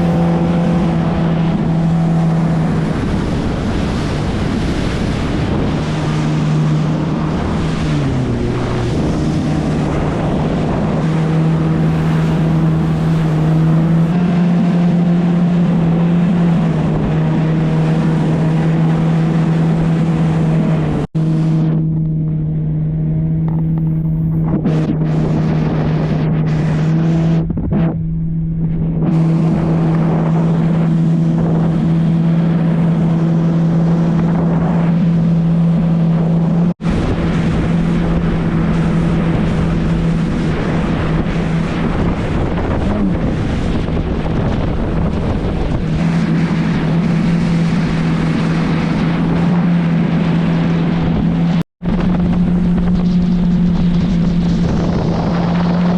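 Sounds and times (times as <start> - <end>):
jet ski engine running: 0.0 - 55.9.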